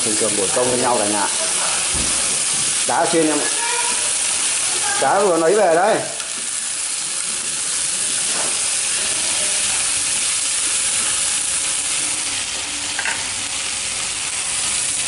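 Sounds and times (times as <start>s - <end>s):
eel sizzling in a hot pan: 0.0s - 15.0s.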